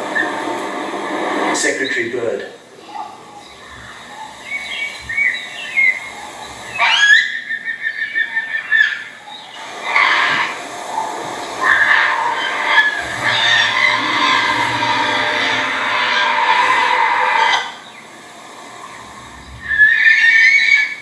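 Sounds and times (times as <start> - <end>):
harsh bird chirping: 0.0 - 21.0
upward sweeping whistled bird call: 3.3 - 18.2, 18.8 - 21.0.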